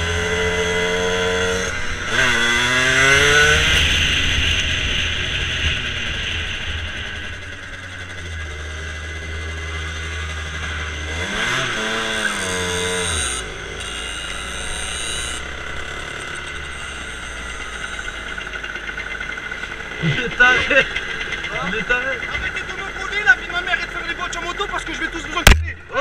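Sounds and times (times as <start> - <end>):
engine and road hum: 0.0 - 26.0
vehicle engine revving: 0.0 - 26.0.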